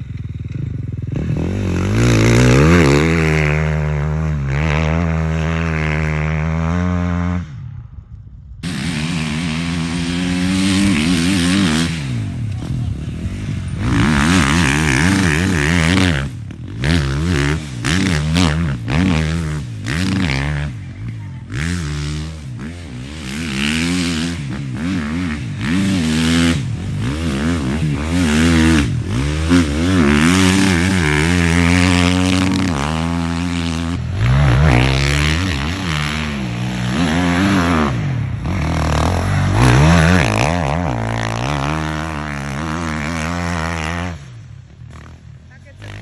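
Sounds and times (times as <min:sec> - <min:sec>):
dirt bike engine revving: 0:00.0 - 0:07.8, 0:08.6 - 0:46.0.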